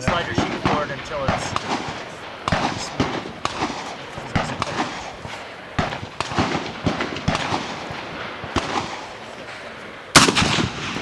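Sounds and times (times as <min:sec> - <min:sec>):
gunshots: 0:00.0 - 0:11.0.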